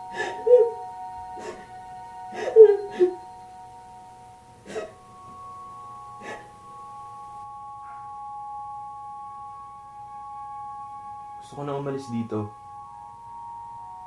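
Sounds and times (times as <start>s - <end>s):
ambient held ringing tones: 0.0s - 14.0s.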